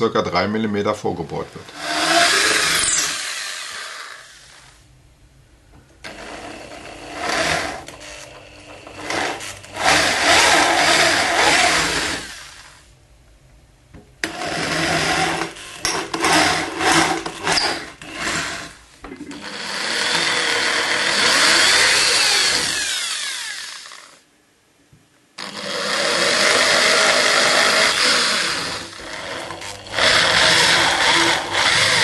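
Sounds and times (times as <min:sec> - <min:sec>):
electric drill boring holes: 0:01.6 - 0:04.8, 0:06.0 - 0:12.8, 0:14.2 - 0:24.2, 0:25.4 - 0:32.0.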